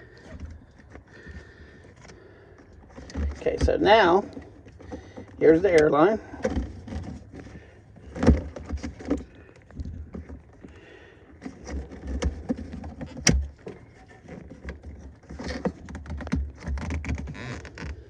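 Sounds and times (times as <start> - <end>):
hands handling air line fittings: 0.0 - 18.0.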